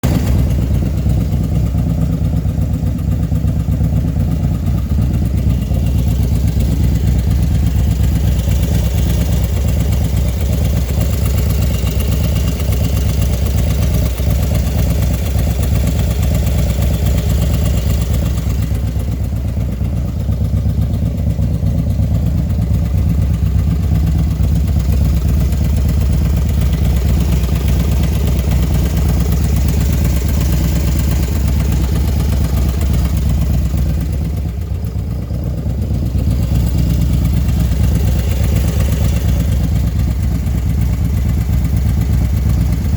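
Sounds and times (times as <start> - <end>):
rapid engine ticking: 0.0 - 42.9
small engine idling: 0.0 - 42.9.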